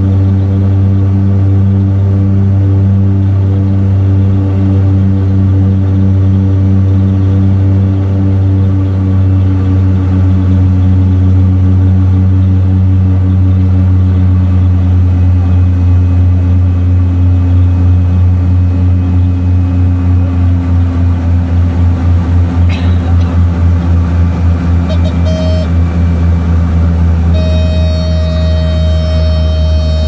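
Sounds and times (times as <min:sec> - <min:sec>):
propeller engines droning: 0:00.0 - 0:30.0.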